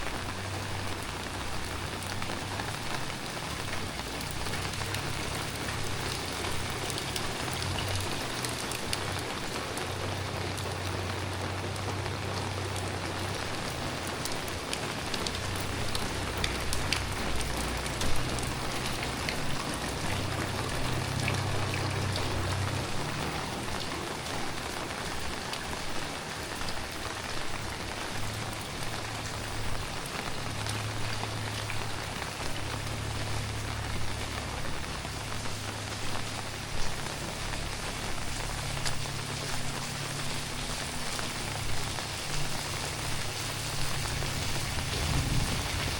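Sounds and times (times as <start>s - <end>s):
heavy rain falling: 0.0s - 45.9s
raindrops ticking: 0.0s - 45.9s.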